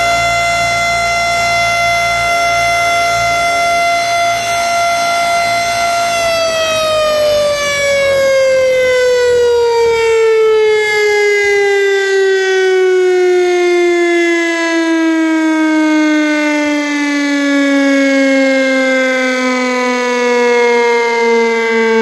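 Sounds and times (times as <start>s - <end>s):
warning siren: 0.0s - 22.0s.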